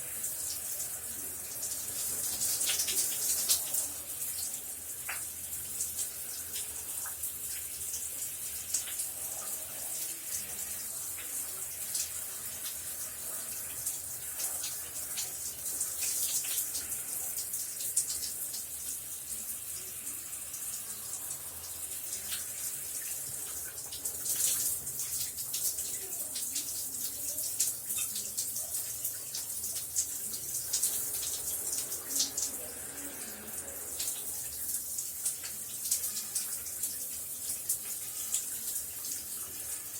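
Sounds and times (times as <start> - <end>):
shower water spray hissing: 0.0 - 39.9
water spattering on floor: 0.0 - 39.9.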